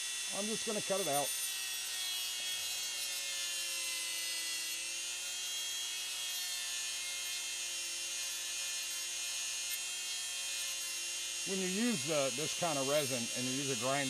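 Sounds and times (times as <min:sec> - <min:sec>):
rotary grinder high whine: 0:00.0 - 0:14.0.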